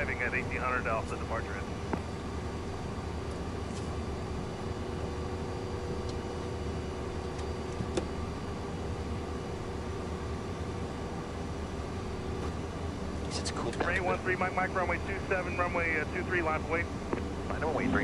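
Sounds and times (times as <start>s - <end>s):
jet cabin hum: 0.0s - 18.0s.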